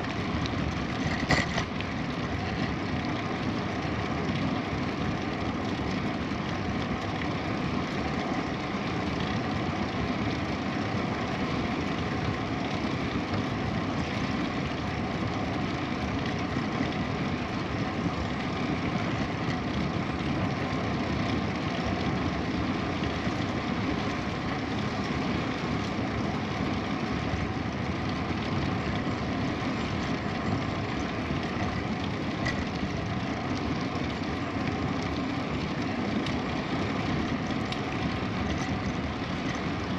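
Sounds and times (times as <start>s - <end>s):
bicycle tyres rolling: 0.0s - 39.9s.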